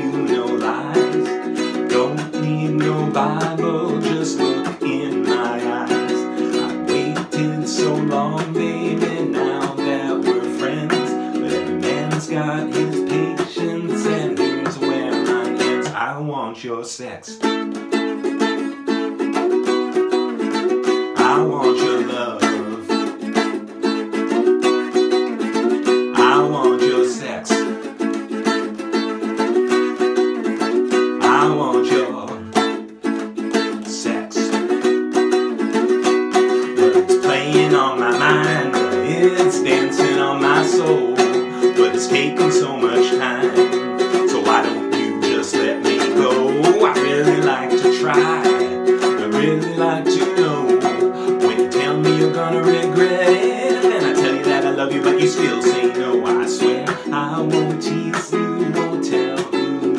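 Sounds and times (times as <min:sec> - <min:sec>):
ukulele strumming: 0:00.0 - 0:59.9.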